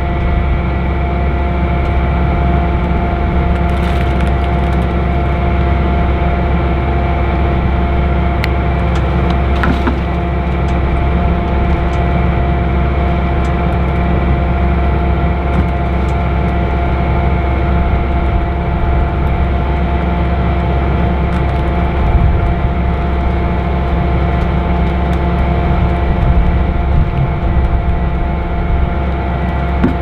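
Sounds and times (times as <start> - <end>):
combine engine hum: 0.0 - 30.0.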